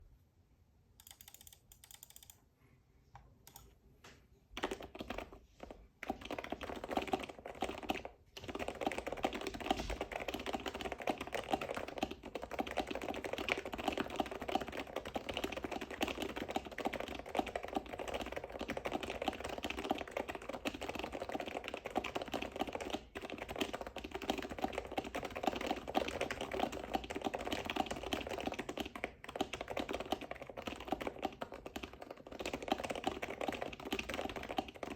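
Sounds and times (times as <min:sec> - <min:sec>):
keyboard typing: 0:01.0 - 0:02.5, 0:03.2 - 0:03.8, 0:04.5 - 0:34.9.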